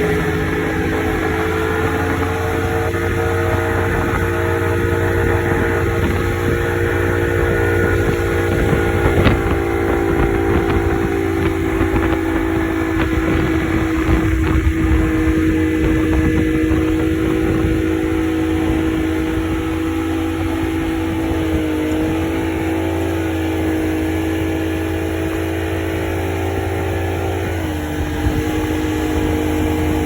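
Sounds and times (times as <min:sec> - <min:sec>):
constant rushing noise: 0:00.0 - 0:30.0
motorboat engine humming: 0:00.0 - 0:30.0.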